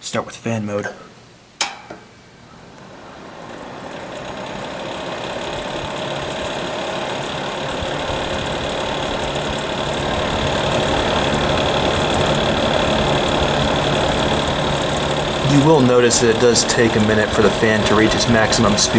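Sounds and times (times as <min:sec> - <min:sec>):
space heater fan running: 0:00.0 - 0:18.9.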